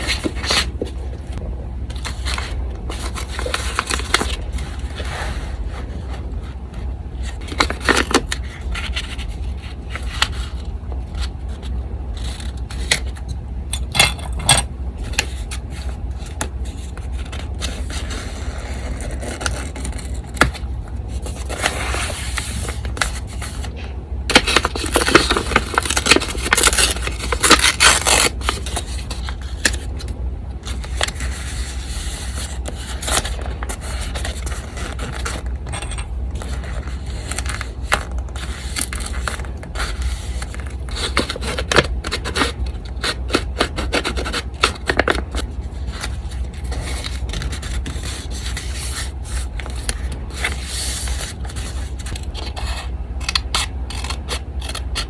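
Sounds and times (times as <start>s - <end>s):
paper scraping and crinkling: 0.0s - 13.3s, 15.0s - 52.9s
electric fan hum: 0.0s - 55.0s.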